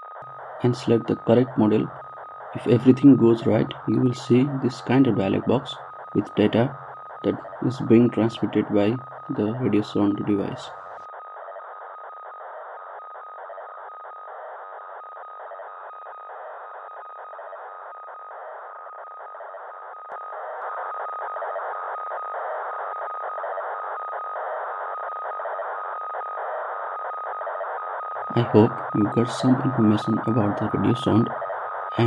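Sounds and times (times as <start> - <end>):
steady whistle tone: 0.0 - 32.0.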